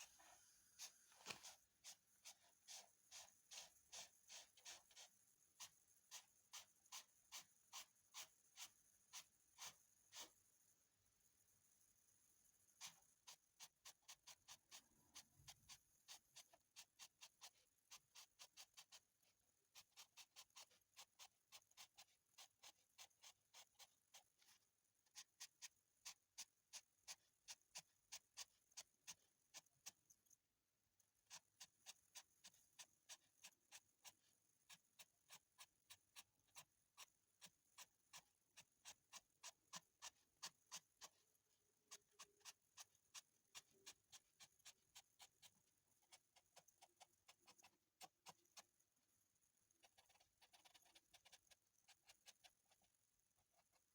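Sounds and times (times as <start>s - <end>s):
charcoal pencil scratching paper: 0.0s - 53.9s.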